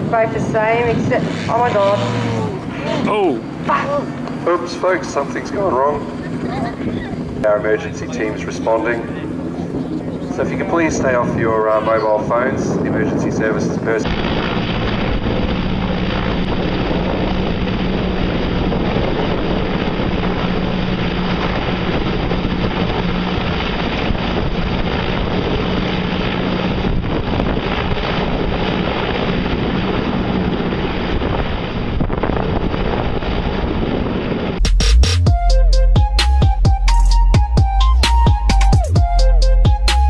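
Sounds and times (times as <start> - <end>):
helicopter rotor and engines: 0.0 - 40.0
wind rumble on microphone: 0.0 - 40.0.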